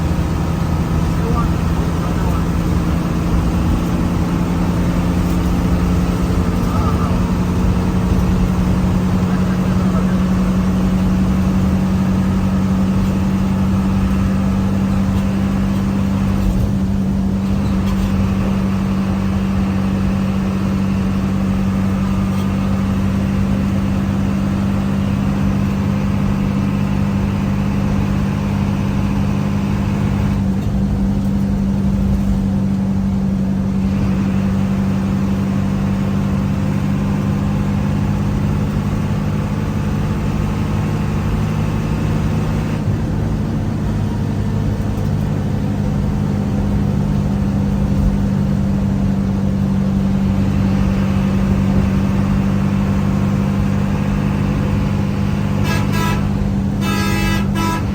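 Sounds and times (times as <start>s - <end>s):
vehicle engine drone and road noise: 0.0s - 57.9s.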